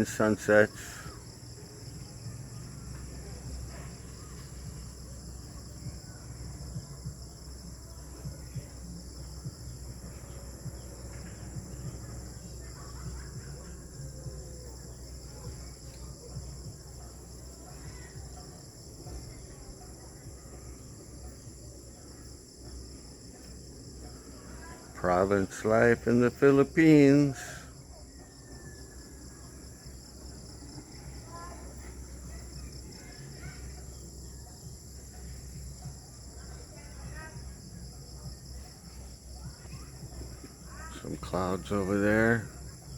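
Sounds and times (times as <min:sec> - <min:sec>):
insect chorus droning: 0:00.0 - 0:42.9.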